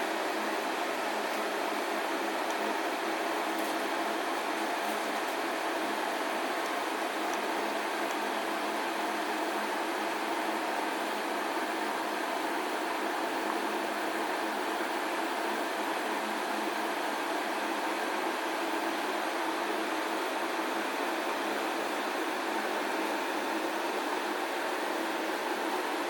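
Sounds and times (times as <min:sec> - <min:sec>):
refrigerator cooling unit hum: 0:00.0 - 0:26.0.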